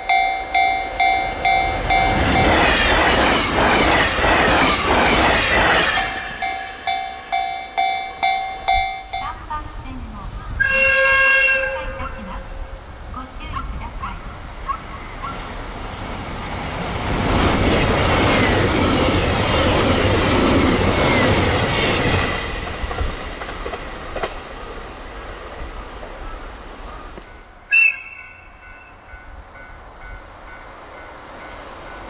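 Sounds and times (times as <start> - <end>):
electric train passing: 0.0 - 32.0.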